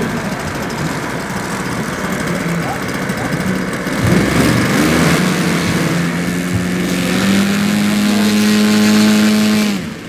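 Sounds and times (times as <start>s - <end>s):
model plane engine and propeller: 0.0s - 10.0s.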